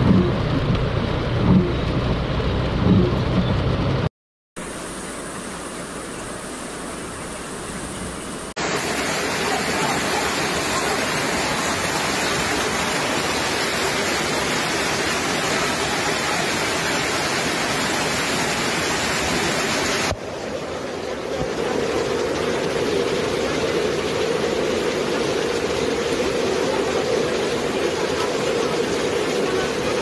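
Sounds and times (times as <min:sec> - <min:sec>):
heavy rain pouring: 0:00.0 - 0:30.0
running floodwater: 0:00.0 - 0:30.0.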